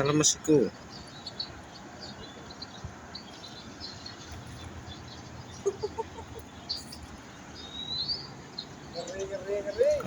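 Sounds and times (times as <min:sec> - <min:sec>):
outdoor background noise: 0:00.0 - 0:10.0
small birds chirping: 0:00.0 - 0:10.0.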